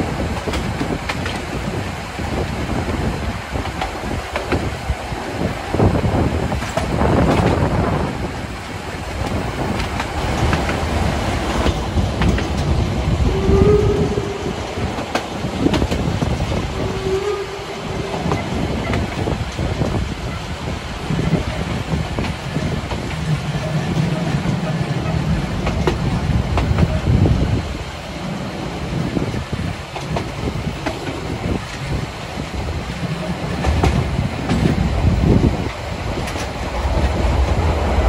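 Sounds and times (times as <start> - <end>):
train wheels rattling and clattering: 0.0 - 38.0.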